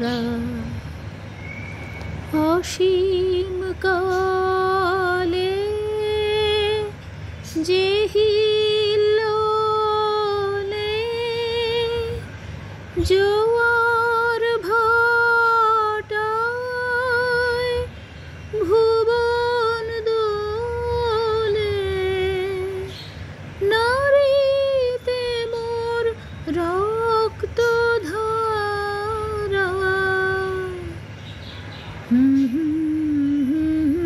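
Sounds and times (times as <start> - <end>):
woman singing unaccompanied: 0.0 - 0.9, 2.3 - 31.1, 32.0 - 34.0.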